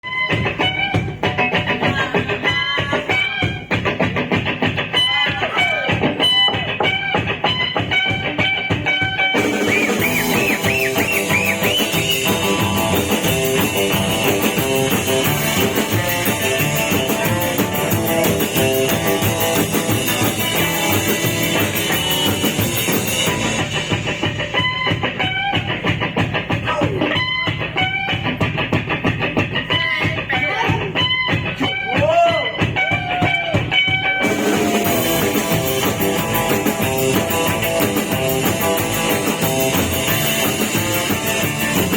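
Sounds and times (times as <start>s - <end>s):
electric guitar with bent notes: 0.0s - 41.9s
rock band playing: 0.0s - 41.9s.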